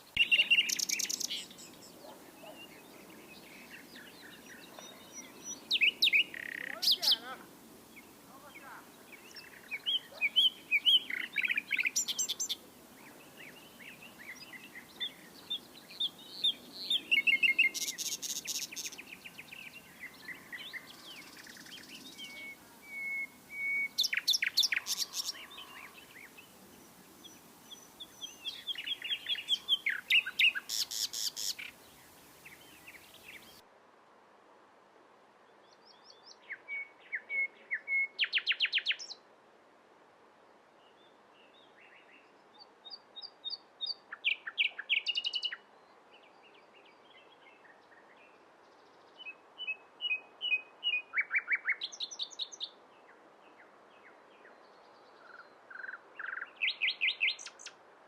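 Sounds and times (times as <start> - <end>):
nightingale singing: 0.0 - 33.6, 35.7 - 39.2, 41.8 - 45.7, 49.2 - 52.8, 55.1 - 57.7.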